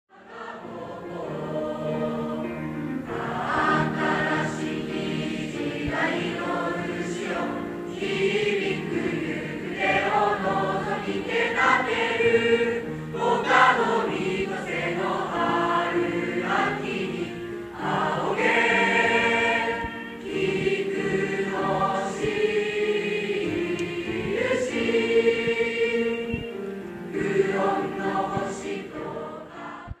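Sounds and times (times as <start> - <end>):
choir singing: 0.1 - 30.0.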